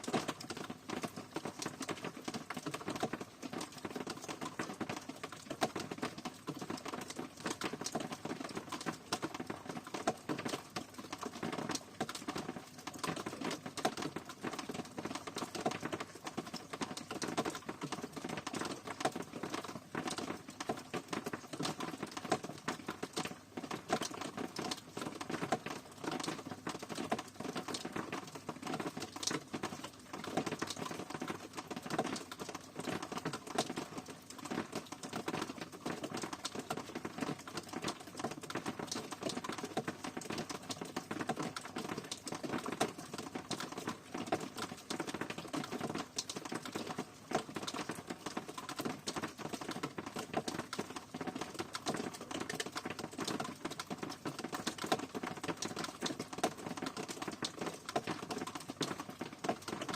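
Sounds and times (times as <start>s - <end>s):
rain pattering on hard surface: 0.0s - 59.9s.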